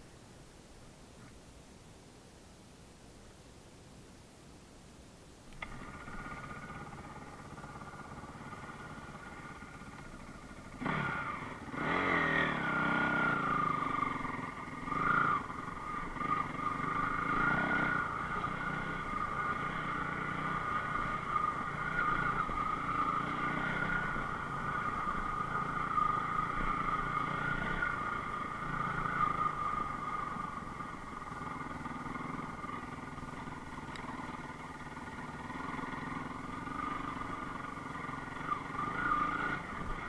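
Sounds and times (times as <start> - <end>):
motorcycle engine revving: 5.6 - 40.0.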